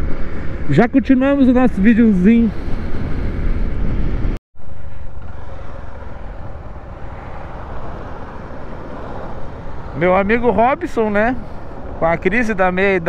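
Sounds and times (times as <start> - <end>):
wind noise: 0.0 - 13.0.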